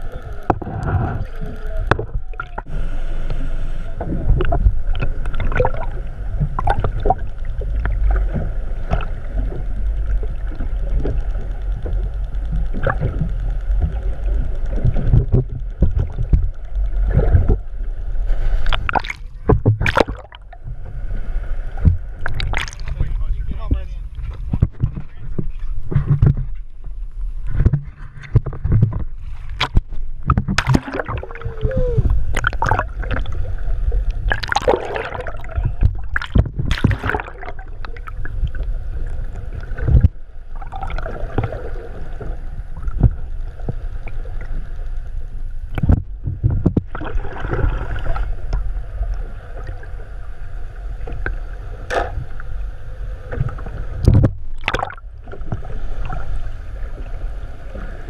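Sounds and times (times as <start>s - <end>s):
boat engine low rumble: 0.0s - 58.0s
water sloshing and gurgling: 0.0s - 58.0s.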